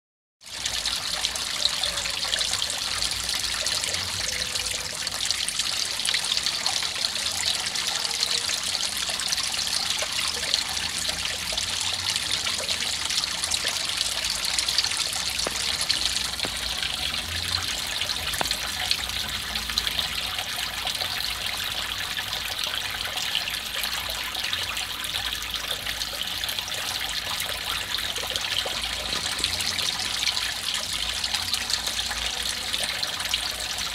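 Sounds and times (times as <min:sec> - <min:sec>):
water trickling into pond: 0:00.4 - 0:33.9.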